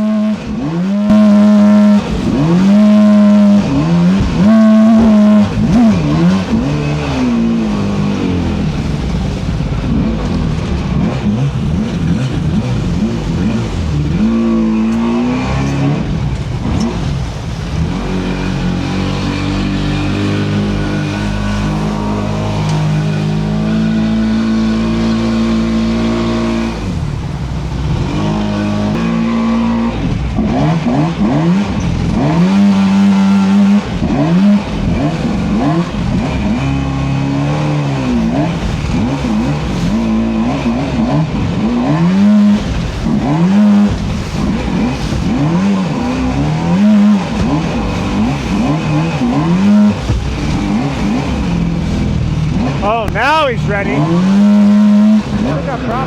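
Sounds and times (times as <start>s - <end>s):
boat motor revving: 0.0s - 56.0s.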